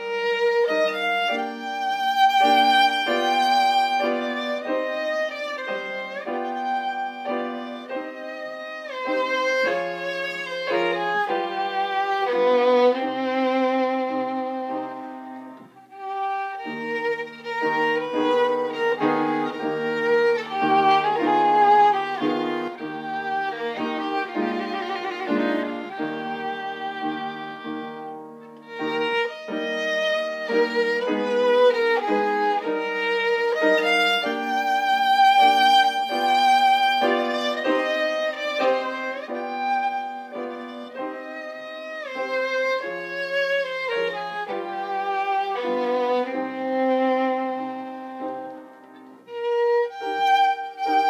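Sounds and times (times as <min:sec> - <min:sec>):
violin melody with vibrato: 0:00.0 - 0:51.0.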